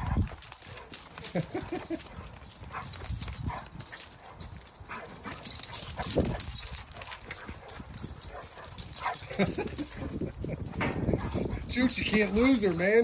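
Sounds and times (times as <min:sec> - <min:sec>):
dog noises: 0:00.0 - 0:12.9
dog claws clicking on concrete: 0:00.0 - 0:13.0.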